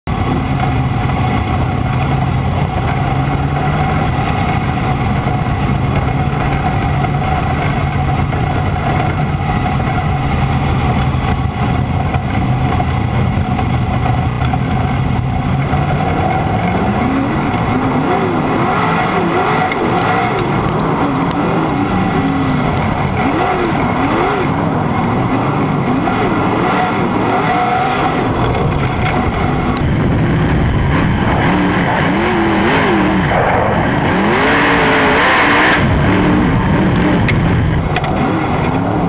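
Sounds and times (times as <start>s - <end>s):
race car engine running: 0.0s - 39.0s
engine revs blipping: 0.1s - 39.0s.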